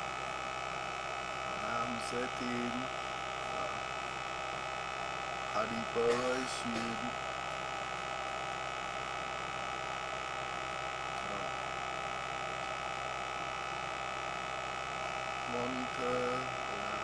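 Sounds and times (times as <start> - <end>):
electrical hum: 0.0 - 17.0
high-pitched whine: 0.0 - 17.0.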